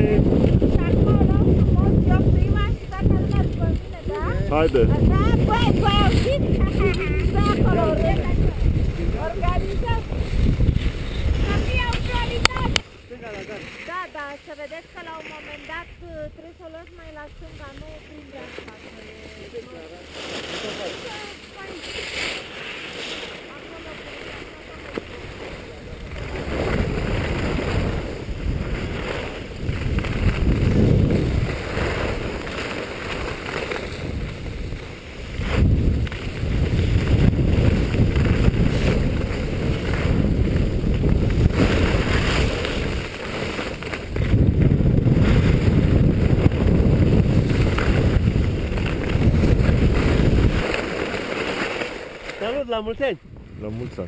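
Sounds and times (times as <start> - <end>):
wind buffeting microphone: 0.0 - 12.9, 15.7 - 18.4, 23.6 - 54.0
skis scraping on packed snow: 0.0 - 54.0.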